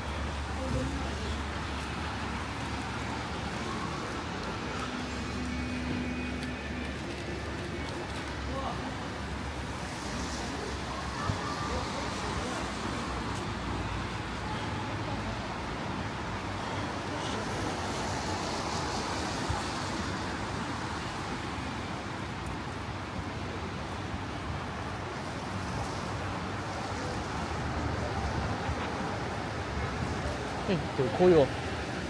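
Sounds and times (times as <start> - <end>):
cars passing on wet road: 0.0 - 32.0.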